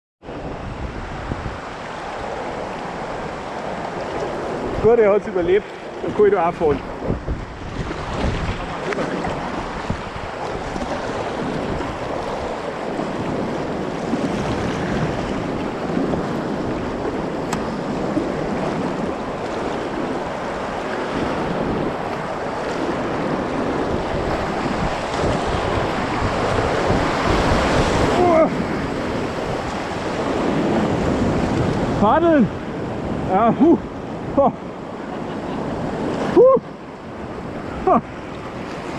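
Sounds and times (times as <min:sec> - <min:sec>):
river current rushing and splashing: 0:00.2 - 0:38.9.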